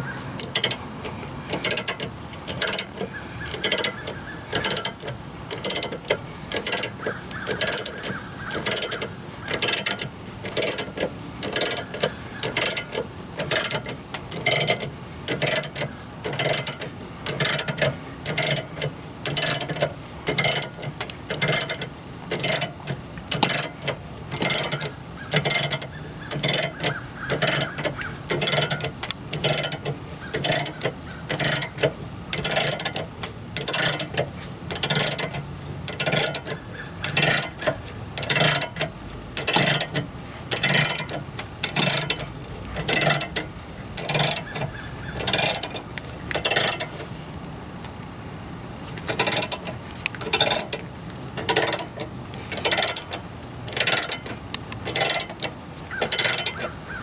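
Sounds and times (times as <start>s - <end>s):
ratchet pawl clicking: 0.0s - 47.2s, 48.8s - 57.0s.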